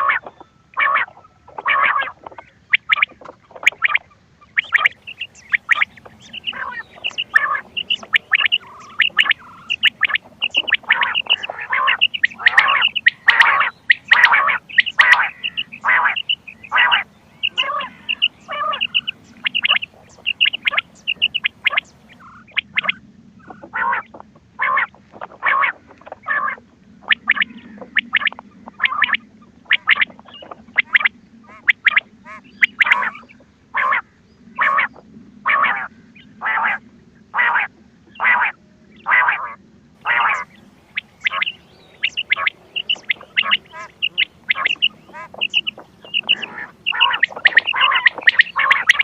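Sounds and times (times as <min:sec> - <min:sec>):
faint low hum: 0:00.0 - 0:49.0
quail calls: 0:00.0 - 0:49.0.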